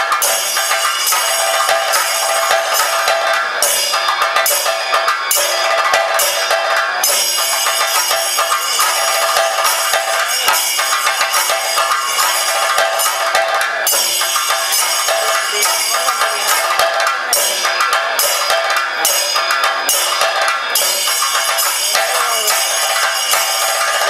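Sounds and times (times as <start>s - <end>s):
cymbals ringing: 0.0s - 24.0s
drums beaten with sticks: 0.0s - 24.0s.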